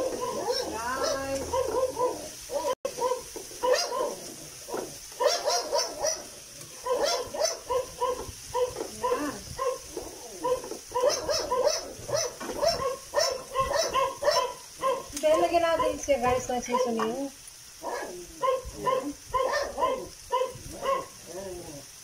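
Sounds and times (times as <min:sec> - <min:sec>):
small dog yapping: 0:00.0 - 0:15.2, 0:17.8 - 0:21.8.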